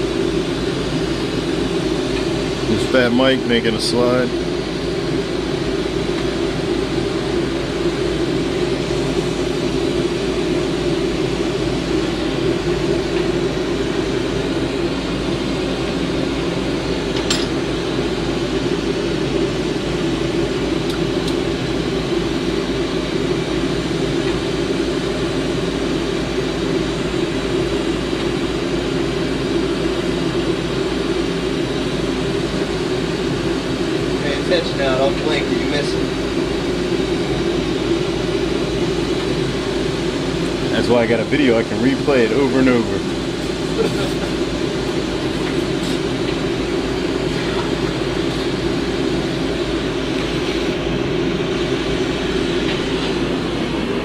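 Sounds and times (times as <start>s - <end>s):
exhaust fan humming: 0.0s - 54.0s
torch flame roaring: 0.0s - 54.0s.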